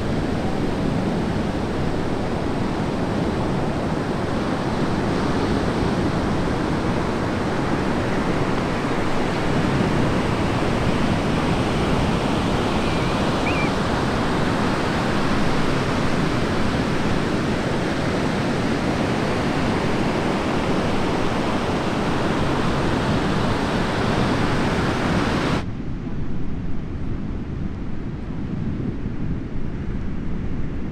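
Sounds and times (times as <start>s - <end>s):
ocean waves breaking: 0.0s - 25.6s.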